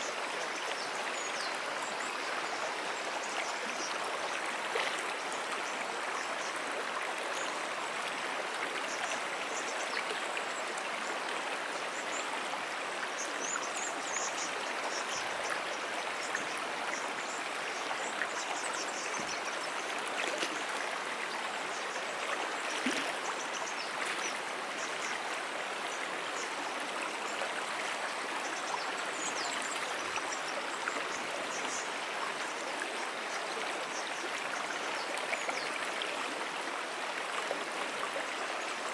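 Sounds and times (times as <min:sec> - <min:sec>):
brook water flowing: 0:00.0 - 0:38.9.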